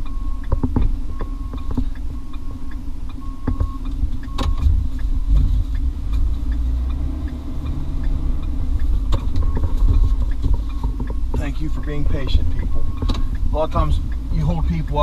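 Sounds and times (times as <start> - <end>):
truck engine low rumble: 0.0 - 15.0.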